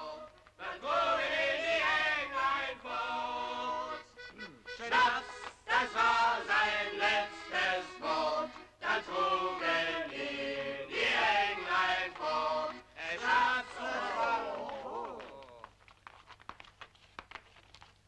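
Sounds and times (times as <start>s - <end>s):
group singing in chorus: 0.0s - 4.1s, 4.8s - 15.2s.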